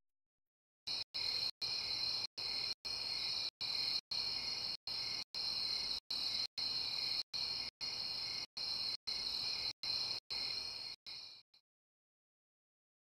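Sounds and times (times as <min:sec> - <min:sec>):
crickets chirping: 0:00.9 - 0:11.4.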